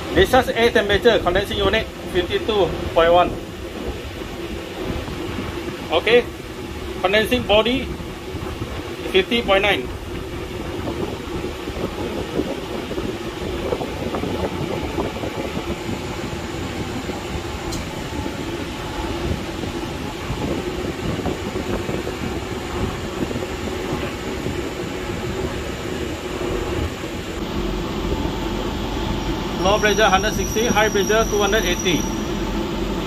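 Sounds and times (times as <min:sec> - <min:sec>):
outdoor unit fan humming: 0:00.0 - 0:33.0.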